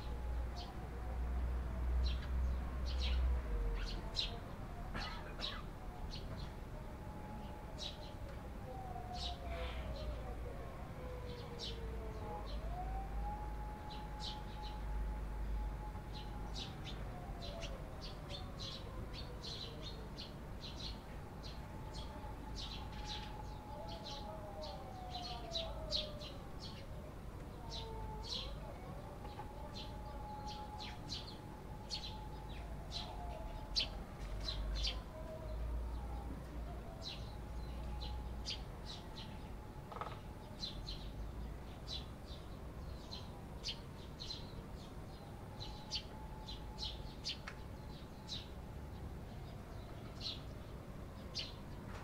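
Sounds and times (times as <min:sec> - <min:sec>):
sparrows chirping: 0:00.0 - 0:00.8, 0:02.0 - 0:52.0.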